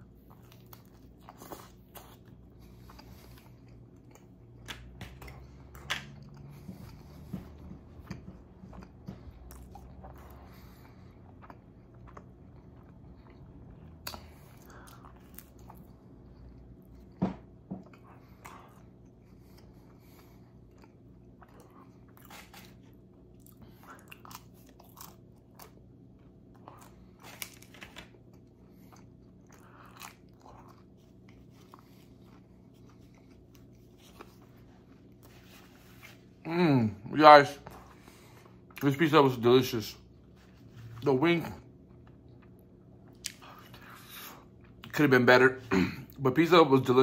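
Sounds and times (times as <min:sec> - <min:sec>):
chewing pizza crust: 0:00.0 - 0:47.0.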